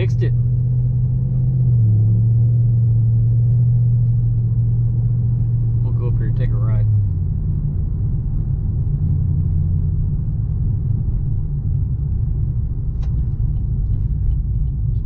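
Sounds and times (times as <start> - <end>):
car engine drone: 0.0 - 15.0
road rumble: 0.0 - 15.0.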